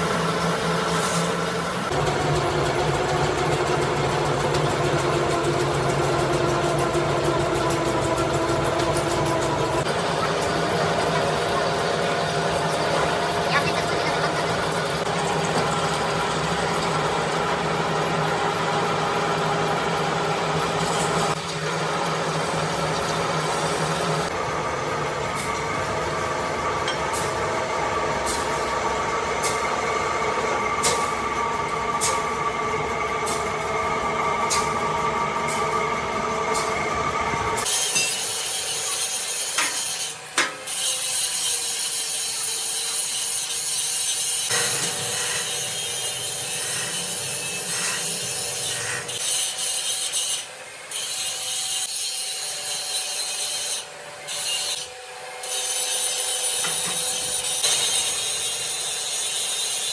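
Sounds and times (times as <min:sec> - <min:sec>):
lathe running: 0:00.0 - 0:51.2.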